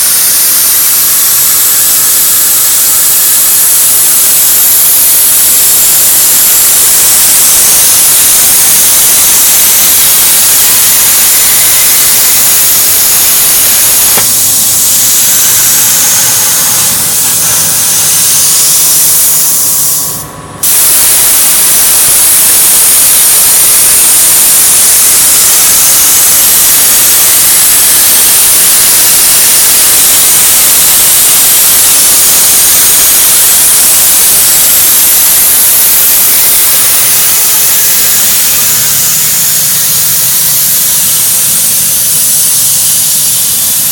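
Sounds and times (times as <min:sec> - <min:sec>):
plasma cutting torch hissing: 0:00.0 - 0:43.9.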